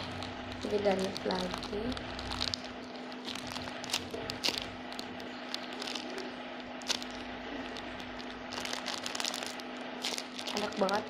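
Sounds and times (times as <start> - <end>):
plastic bags crinkling: 0.0 - 11.0
steady low hum: 0.0 - 11.0.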